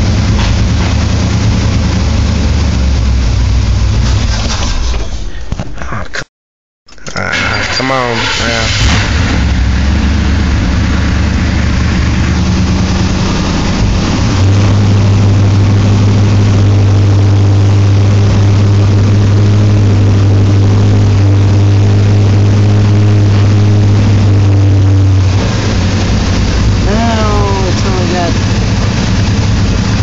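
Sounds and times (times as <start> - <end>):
pickup truck engine revving: 0.0 - 4.5, 7.3 - 30.0.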